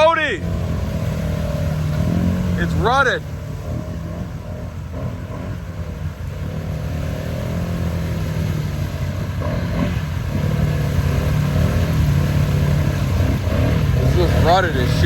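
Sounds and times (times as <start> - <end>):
atv engine rumbling: 0.0 - 15.0.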